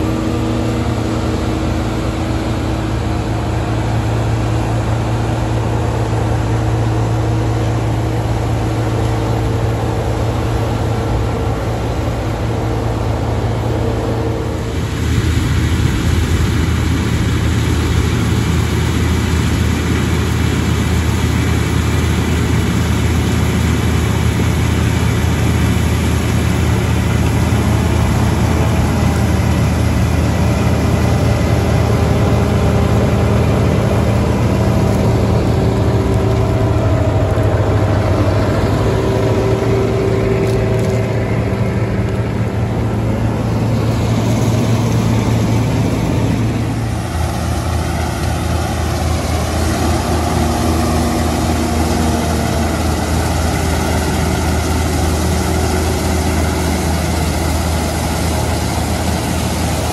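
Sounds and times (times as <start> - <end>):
faint steady whines: 0.0 - 59.9
tractor and harvester engines running: 0.0 - 59.9.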